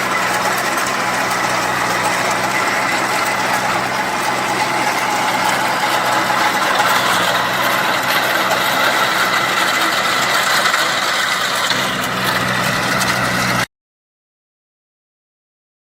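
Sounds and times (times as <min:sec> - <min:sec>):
tractor diesel engine running: 0:00.0 - 0:13.7.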